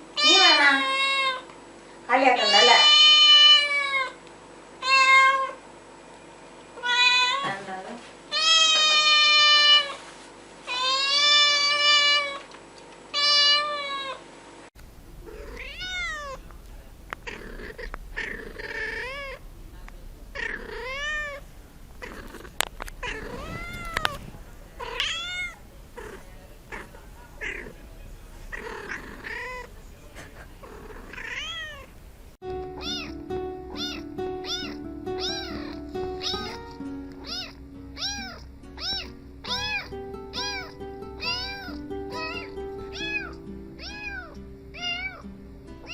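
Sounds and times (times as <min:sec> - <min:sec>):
cats meowing: 0:02.4 - 0:04.2, 0:04.8 - 0:05.6, 0:06.8 - 0:07.6, 0:08.3 - 0:10.0, 0:10.7 - 0:12.5, 0:13.2 - 0:14.2, 0:15.2 - 0:32.0, 0:32.6 - 0:45.9.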